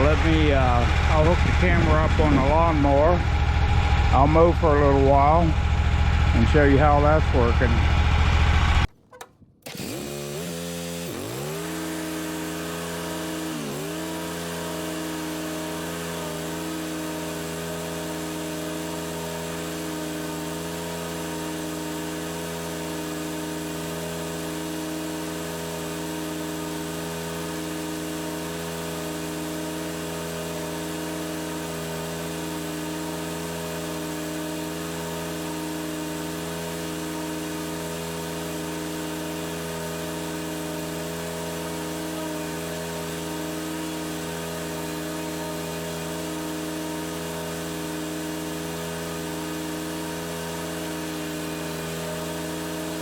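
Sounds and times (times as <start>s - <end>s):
mower engine revving: 0.0s - 53.0s.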